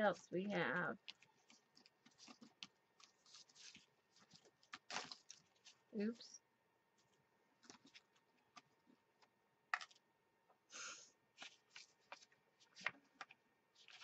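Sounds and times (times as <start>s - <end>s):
paper rustling: 0.0s - 6.2s, 7.0s - 10.0s, 11.3s - 14.0s.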